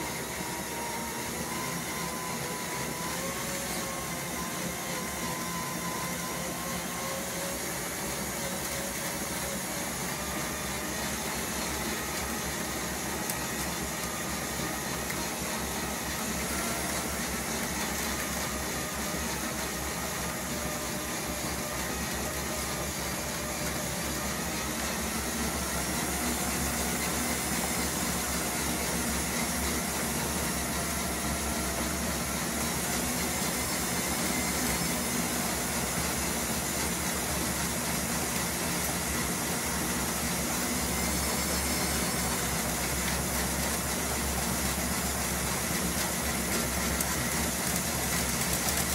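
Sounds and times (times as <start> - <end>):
small electric motor whine: 0.0 - 48.9.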